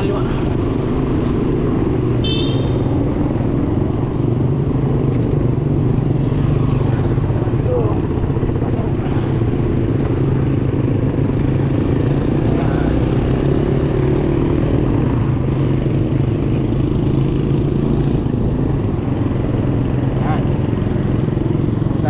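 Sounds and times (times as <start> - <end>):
heavy road traffic drone: 0.0 - 22.0
motorcycle engines running: 0.0 - 22.0.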